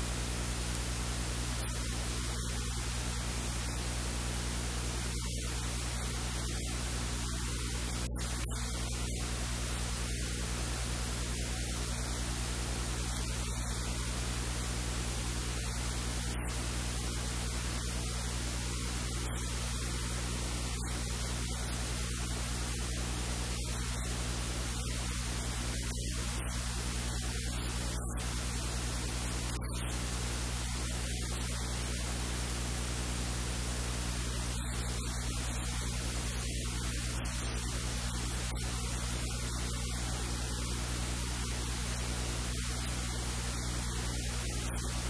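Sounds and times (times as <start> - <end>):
low electrical hum: 0.0 - 45.0
static hiss: 0.0 - 45.0.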